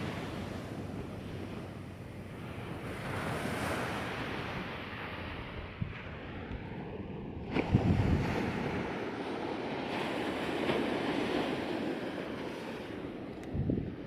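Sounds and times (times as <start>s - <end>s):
ocean surf washing up beach: 0.0s - 14.0s
wind buffeting microphone: 0.0s - 14.0s.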